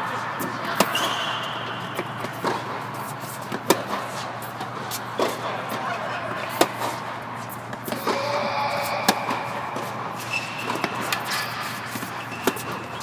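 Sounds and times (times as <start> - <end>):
steady background hum: 0.0 - 13.0
tennis balls bouncing: 0.4 - 13.0
tennis balls struck by racquets: 0.4 - 13.0.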